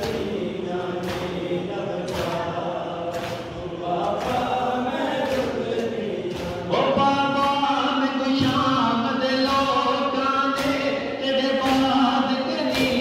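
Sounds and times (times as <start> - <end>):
rhythmic slaps: 0.0 - 13.0
voices chanting a lament: 0.0 - 13.0.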